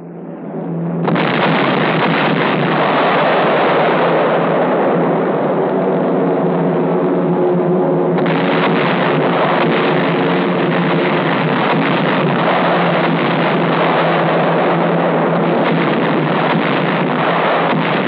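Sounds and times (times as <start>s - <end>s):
rumbling roar of bombing raid: 0.0s - 18.0s
steady drone: 0.0s - 18.0s
crackling explosions: 0.9s - 18.0s.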